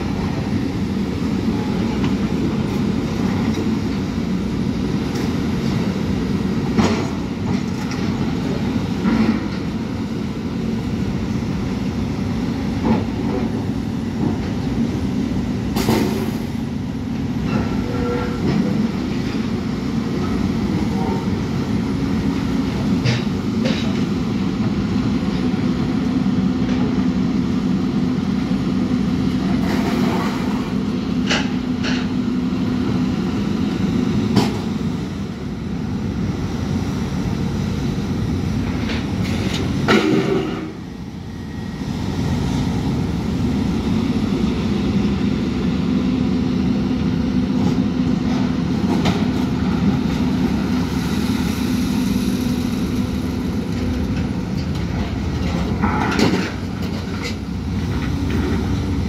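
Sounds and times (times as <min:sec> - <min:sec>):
excavator diesel engines running: 0:00.0 - 0:59.0.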